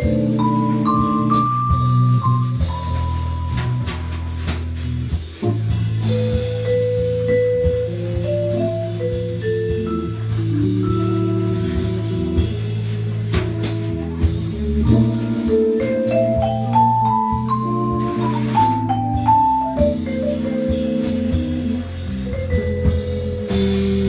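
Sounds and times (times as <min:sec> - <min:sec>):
vibraphone melody: 0:00.0 - 0:04.5, 0:06.0 - 0:12.8, 0:14.2 - 0:24.0
drum kit cymbals and drums: 0:00.0 - 0:24.0
low bass line: 0:00.0 - 0:24.0.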